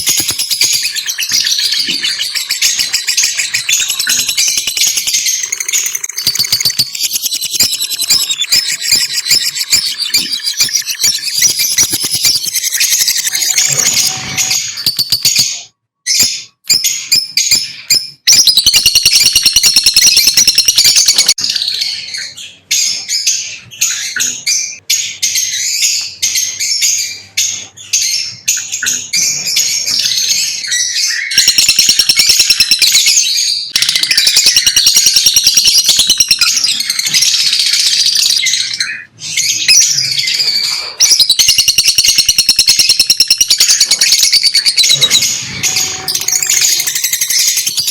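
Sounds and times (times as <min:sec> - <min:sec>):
lovebirds chirping: 0:00.0 - 0:47.9.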